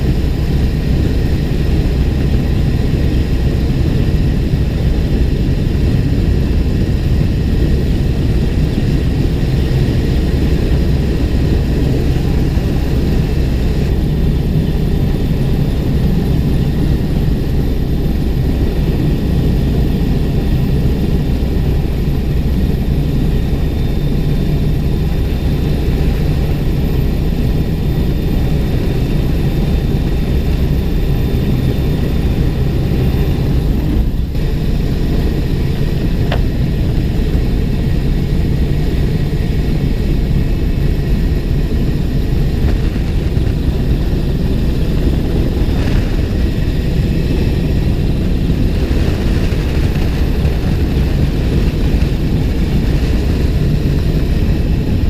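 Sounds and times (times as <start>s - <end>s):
helicopter hovering drone: 0.0s - 55.0s.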